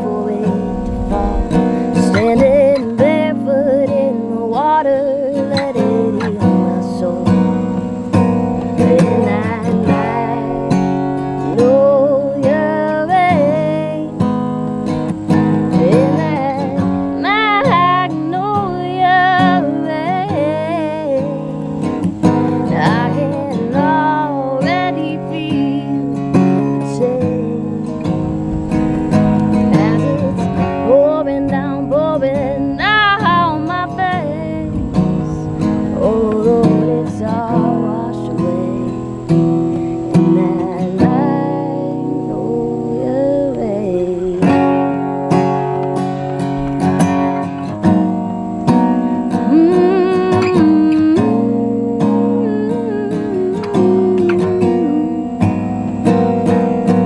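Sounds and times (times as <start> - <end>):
acoustic guitar strummed: 0.0 - 57.0
woman singing with vibrato: 0.0 - 57.0.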